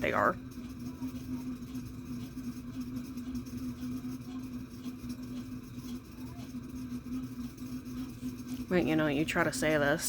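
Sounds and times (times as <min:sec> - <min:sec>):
low whirring room hum: 0:00.0 - 0:10.0.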